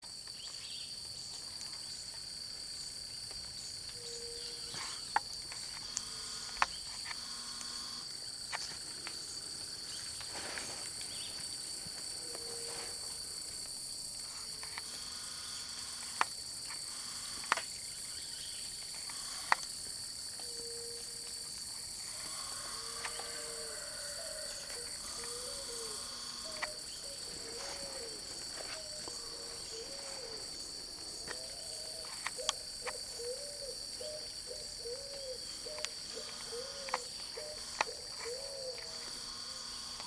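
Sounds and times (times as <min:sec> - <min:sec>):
insects chirring: 0:00.0 - 0:40.0.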